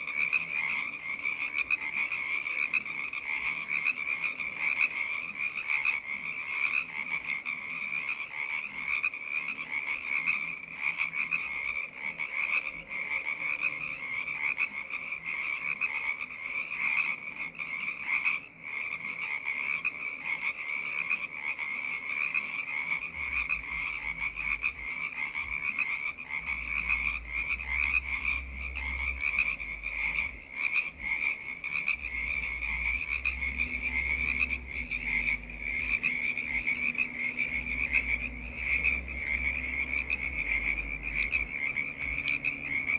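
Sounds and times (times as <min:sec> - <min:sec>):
frogs trilling: 0:00.0 - 0:42.9.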